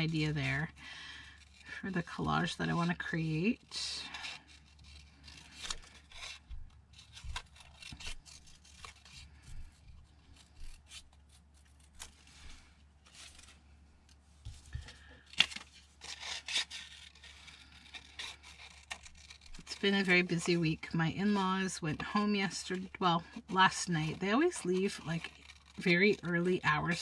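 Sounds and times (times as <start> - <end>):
scissors snipping paper: 0.0 - 12.2, 14.9 - 20.6, 22.2 - 27.0
paper rustling: 0.1 - 21.5, 22.1 - 27.0.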